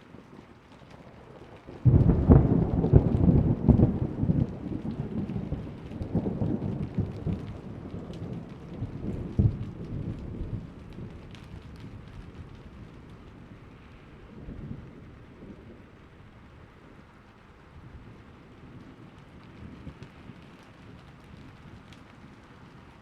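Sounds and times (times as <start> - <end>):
steady rain: 0.0 - 23.0
thunder crack and rumble: 0.1 - 23.0.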